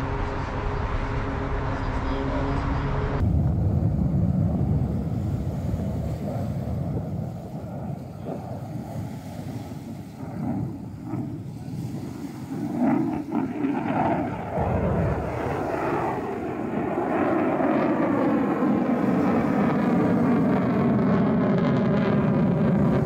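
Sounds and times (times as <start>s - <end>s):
fighter jet engine roar: 0.0s - 23.0s.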